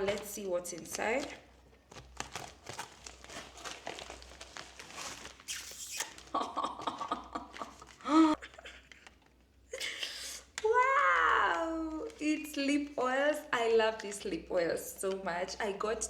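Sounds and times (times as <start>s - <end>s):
plastic packaging rustling and crinkling: 0.0s - 16.0s.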